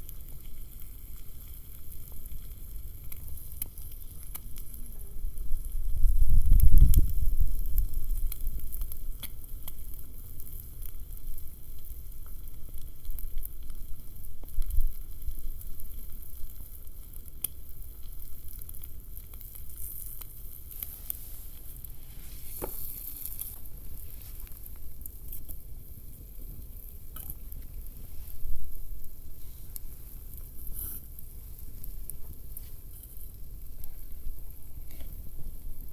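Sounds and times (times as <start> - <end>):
food sizzling in a pan: 0.0 - 35.9.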